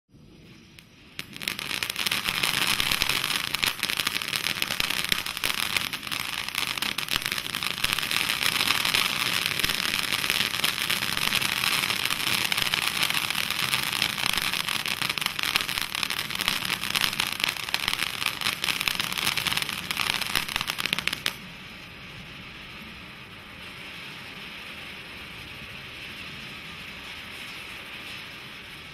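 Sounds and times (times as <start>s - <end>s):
fountain firework hissing and crackling: 0.2s - 28.9s.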